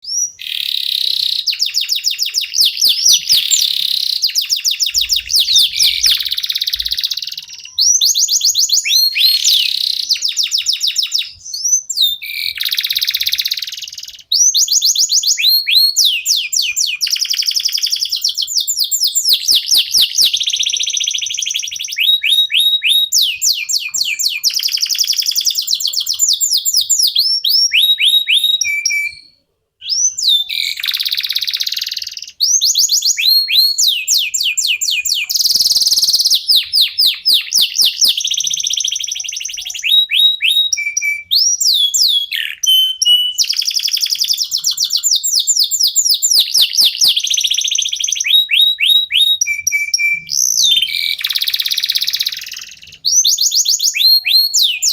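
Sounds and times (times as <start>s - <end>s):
canaries singing trills: 0.0s - 54.9s.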